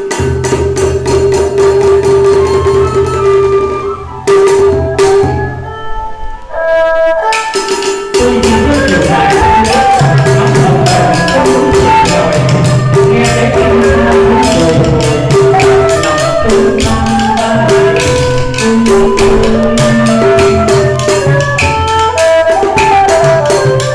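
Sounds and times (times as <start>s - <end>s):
hand-beaten barrel drum: 0.0s - 5.6s, 7.4s - 23.9s
bamboo flute melody: 0.0s - 23.9s
small stick-played drum: 0.0s - 23.9s.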